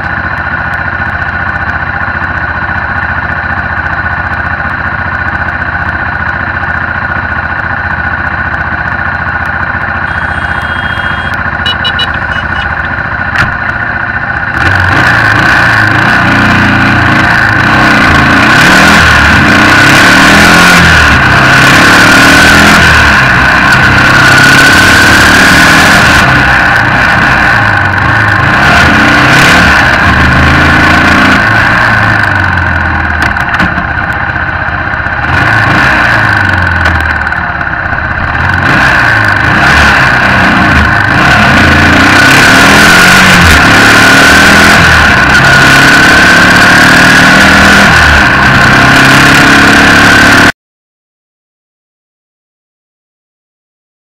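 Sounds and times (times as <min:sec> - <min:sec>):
motorcycle engine running: 0:00.0 - 0:50.5.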